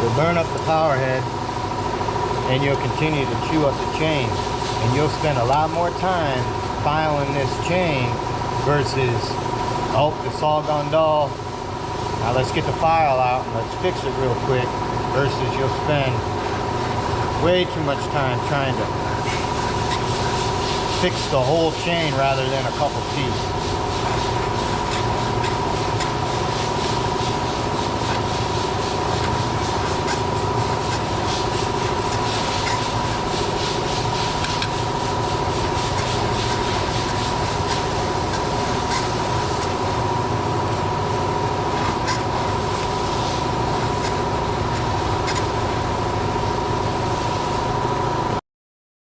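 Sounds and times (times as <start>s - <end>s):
engine running with whine: 0.0s - 48.4s
steady hum: 0.0s - 48.4s.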